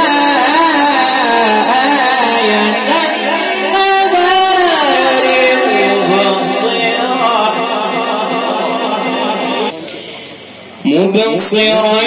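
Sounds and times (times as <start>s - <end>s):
man reciting melodically: 0.0s - 9.8s, 10.8s - 12.0s.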